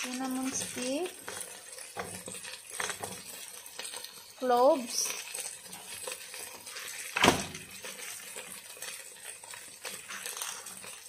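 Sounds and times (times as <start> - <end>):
faint sizzle of frying: 0.0 - 11.0.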